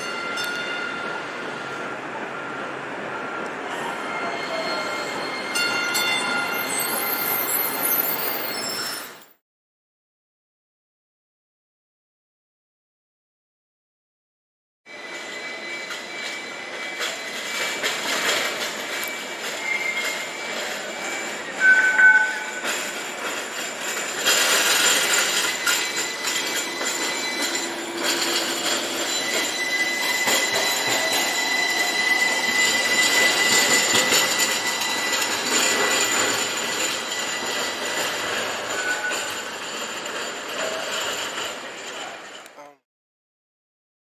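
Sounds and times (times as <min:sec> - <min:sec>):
train rolling on rails: 0:00.0 - 0:09.4, 0:14.9 - 0:42.6
train wheels squealing: 0:00.0 - 0:09.4, 0:14.9 - 0:42.5.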